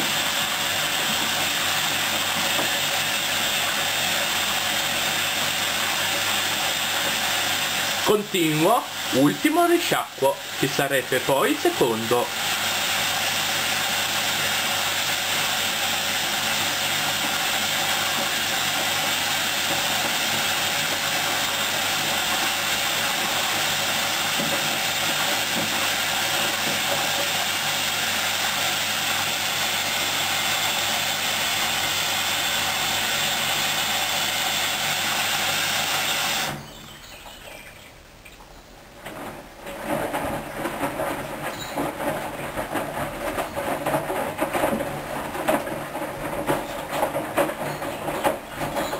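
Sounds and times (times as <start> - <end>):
washing machine rushing noise: 0.0 - 48.9.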